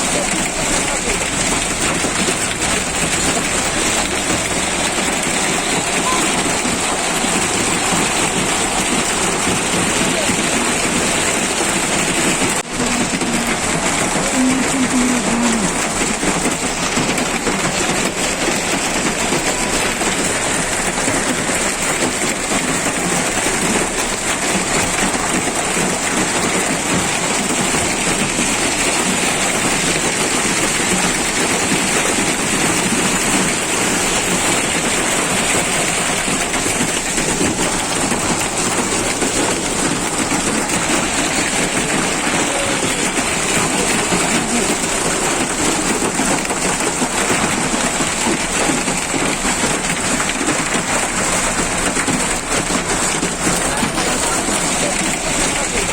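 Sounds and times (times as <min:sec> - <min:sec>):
hail and rain pattering: 0:00.0 - 0:55.9.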